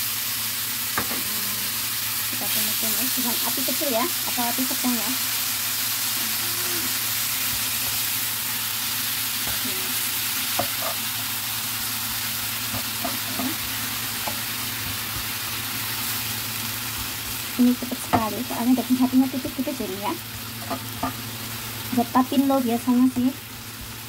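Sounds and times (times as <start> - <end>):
beef sizzling in oil: 0.0 - 24.0.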